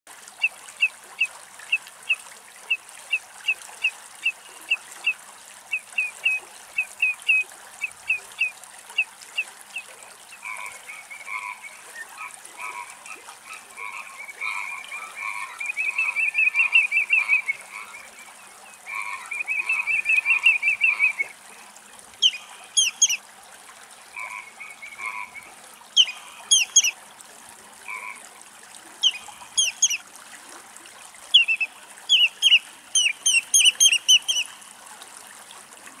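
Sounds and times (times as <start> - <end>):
wetland bird calls: 0.4 - 21.4, 22.2 - 23.2, 24.2 - 27.0, 29.0 - 30.0, 31.3 - 34.6.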